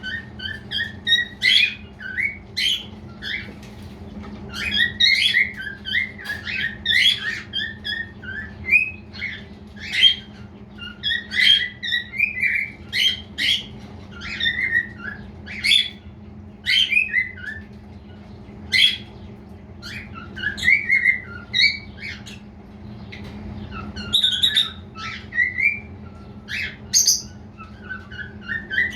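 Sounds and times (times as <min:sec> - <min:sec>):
cockatiel chirping and whistling: 0:00.0 - 0:03.5, 0:04.5 - 0:16.0, 0:16.6 - 0:17.7, 0:19.8 - 0:22.4, 0:23.7 - 0:28.9.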